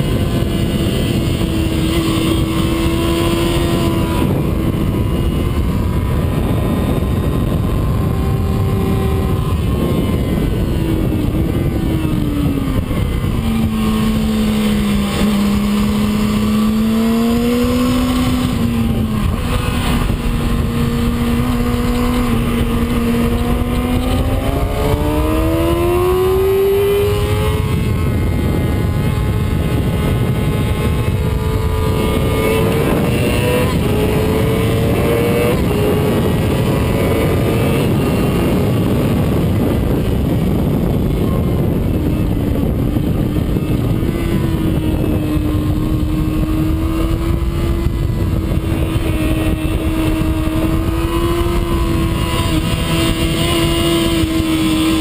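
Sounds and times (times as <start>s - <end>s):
heavy wind noise: 0.0s - 55.0s
motorcycle engine accelerating: 0.0s - 55.0s.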